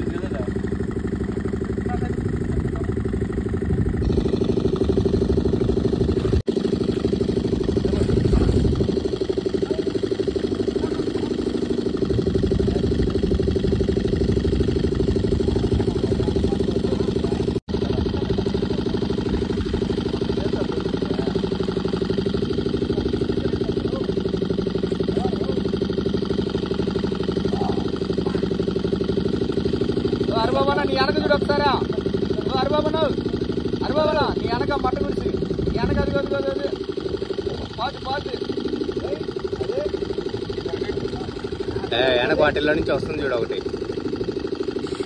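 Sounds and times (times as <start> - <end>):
water pump engine running: 0.0 - 45.0.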